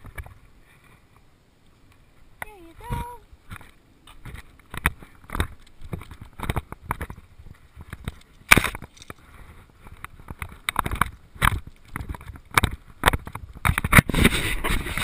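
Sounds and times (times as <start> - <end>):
nylon leashes and clips rustling: 0.0 - 15.0.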